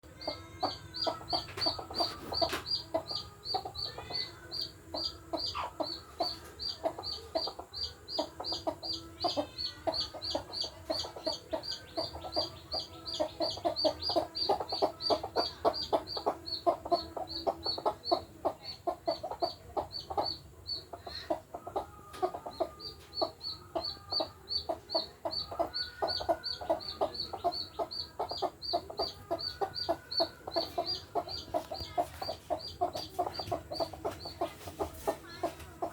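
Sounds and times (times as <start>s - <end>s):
chick peeping: 0.0s - 35.9s
hens clucking: 0.0s - 35.9s.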